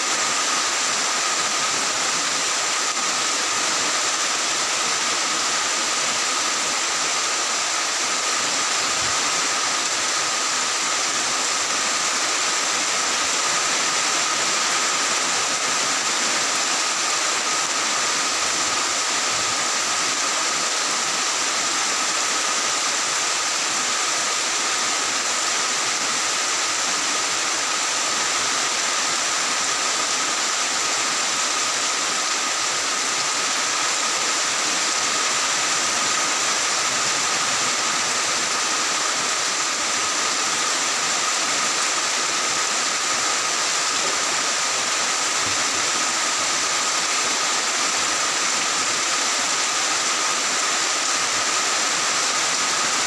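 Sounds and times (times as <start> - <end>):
rain on a tile roof: 0.0 - 53.0.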